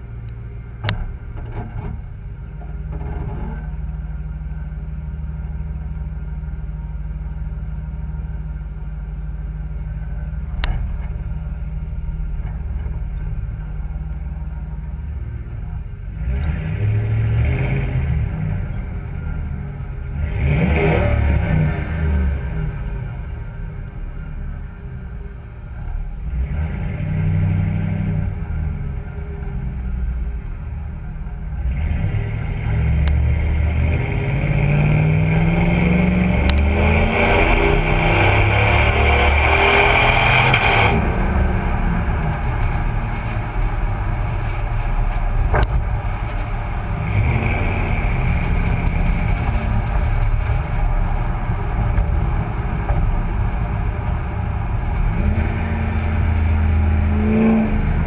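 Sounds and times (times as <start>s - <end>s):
truck engine exhaust rumble: 0.0s - 58.0s.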